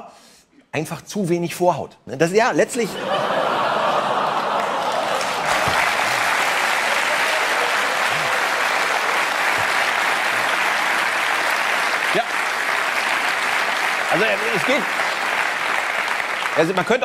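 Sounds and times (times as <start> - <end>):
audience applauding: 3.2 - 17.0.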